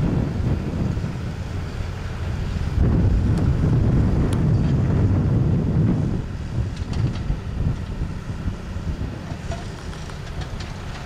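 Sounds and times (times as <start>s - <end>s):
tractor engine running: 0.0s - 11.0s
wind buffeting microphone: 0.0s - 11.0s.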